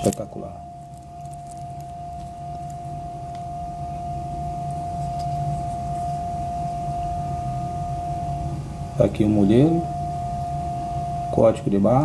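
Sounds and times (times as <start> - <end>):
long held note over drone: 0.0 - 12.0.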